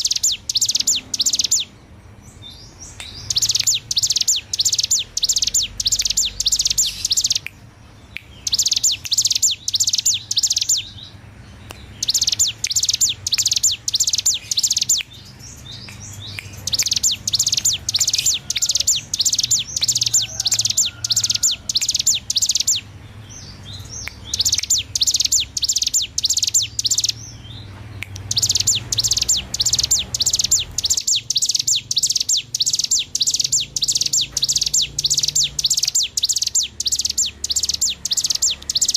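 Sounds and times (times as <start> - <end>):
bird singing rapid high notes: 0.0 - 38.9.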